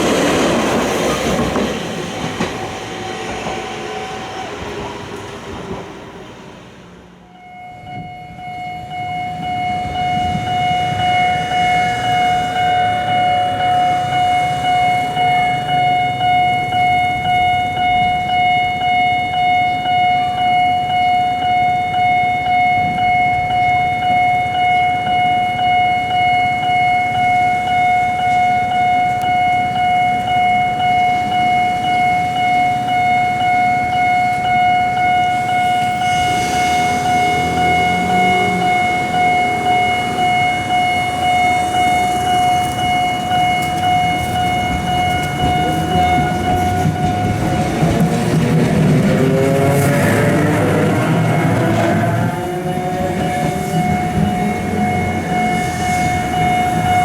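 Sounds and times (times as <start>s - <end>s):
level crossing alarm ringing: 7.3s - 57.0s.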